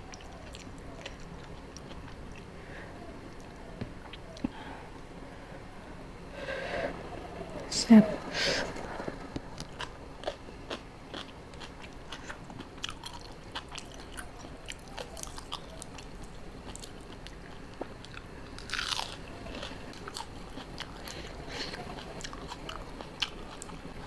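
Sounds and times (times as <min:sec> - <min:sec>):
crunching and chewing food: 0:00.0 - 0:04.7, 0:08.7 - 0:24.0.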